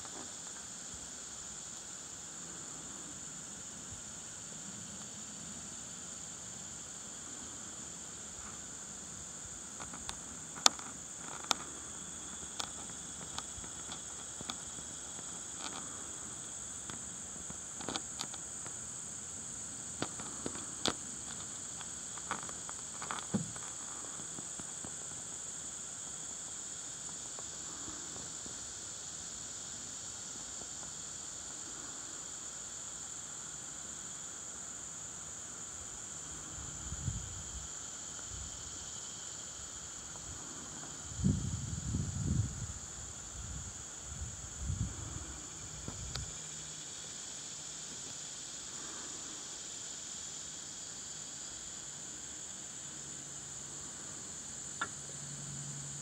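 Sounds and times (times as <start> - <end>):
high-pitched hiss: 0.0 - 56.0
insect-like whine: 0.0 - 56.0.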